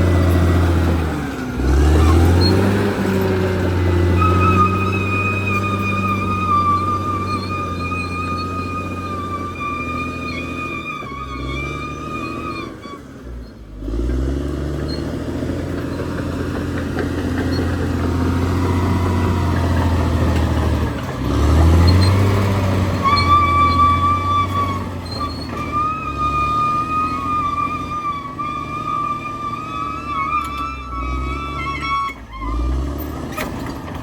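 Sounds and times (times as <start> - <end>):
bulldozer diesel engine under load: 0.0 - 34.0.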